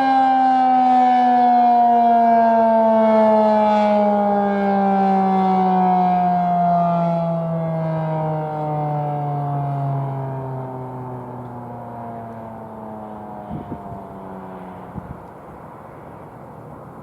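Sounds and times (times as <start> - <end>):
warning siren winding down: 0.0 - 15.4.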